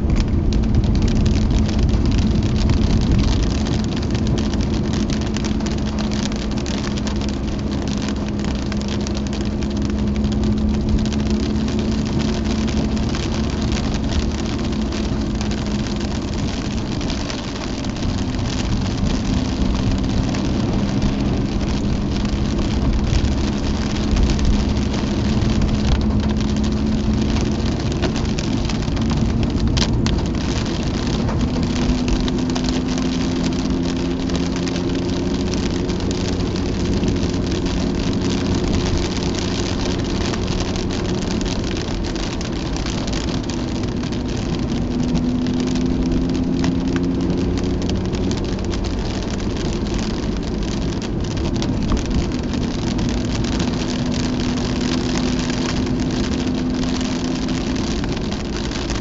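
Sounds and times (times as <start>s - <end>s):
car engine from inside cabin: 0.0s - 59.0s
wet tyres on road: 0.0s - 59.0s.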